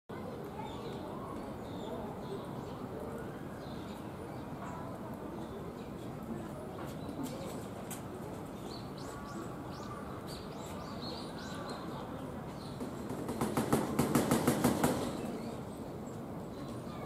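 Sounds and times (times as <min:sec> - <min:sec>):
outdoor background noise: 0:00.1 - 0:17.0.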